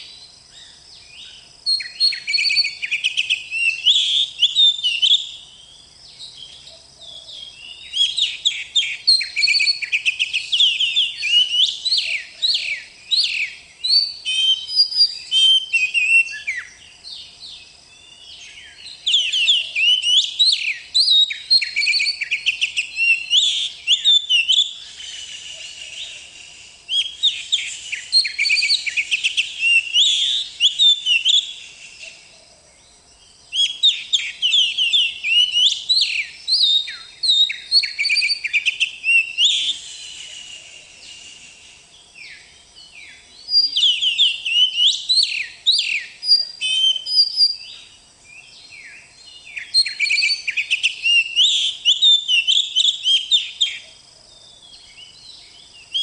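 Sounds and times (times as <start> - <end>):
bird singing whistles and chatter: 1.7 - 5.4, 7.6 - 16.8, 18.0 - 32.2, 33.5 - 42.4, 43.0 - 47.9, 48.7 - 53.9.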